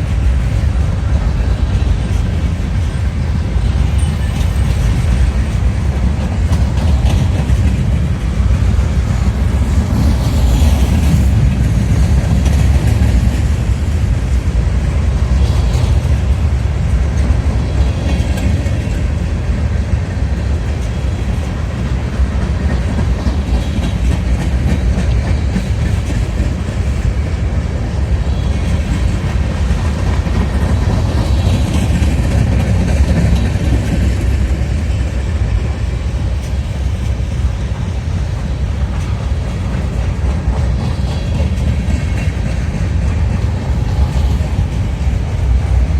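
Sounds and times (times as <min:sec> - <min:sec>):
freight train rumbling on rails: 0:00.0 - 0:45.9.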